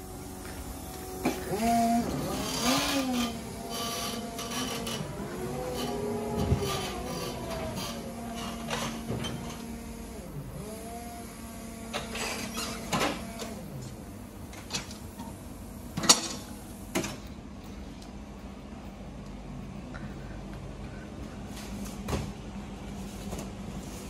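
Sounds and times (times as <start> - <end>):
electric motor hum and whine: 0.0 - 24.0.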